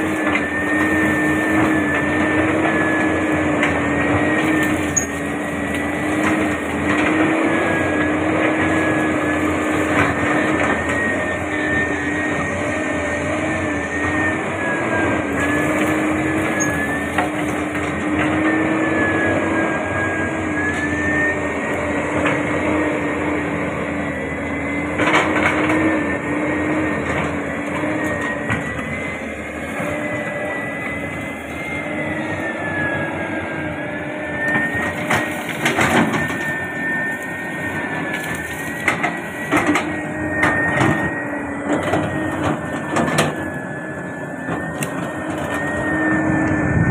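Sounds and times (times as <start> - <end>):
bucket crunching brush and soil: 0.0 - 18.8, 27.3 - 46.3
excavator diesel engine: 0.0 - 46.9
high hydraulic whine: 0.0 - 46.9.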